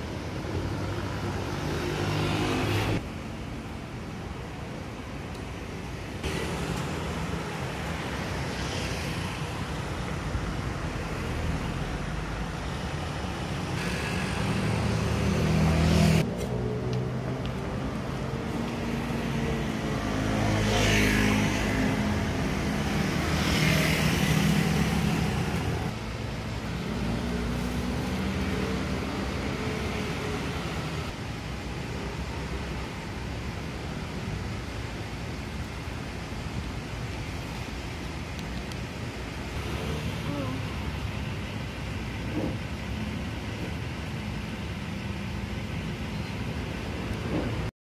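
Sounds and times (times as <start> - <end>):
low traffic rumble: 0.0 - 47.7
vehicles passing: 0.0 - 47.7.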